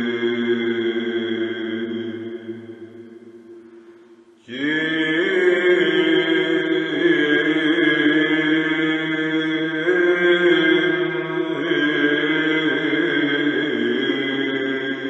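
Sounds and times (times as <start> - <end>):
chant singing: 0.0 - 3.6, 4.4 - 15.0
steady low vocal drone: 0.0 - 15.0.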